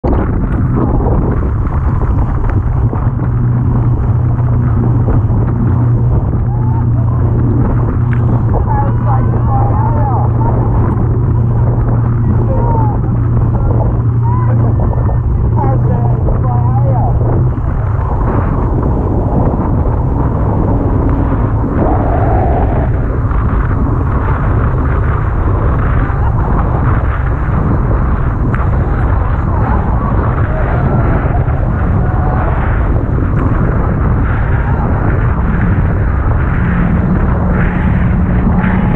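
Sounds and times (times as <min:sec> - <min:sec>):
motorboat engine drone: 0:00.0 - 0:38.9
water rushing along hull: 0:00.0 - 0:38.9
wind buffeting microphone: 0:00.0 - 0:38.9.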